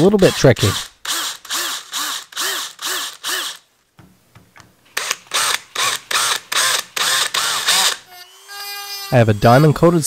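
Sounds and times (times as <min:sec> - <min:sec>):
power drill boring into brass pins: 0:00.2 - 0:03.6, 0:05.0 - 0:10.0.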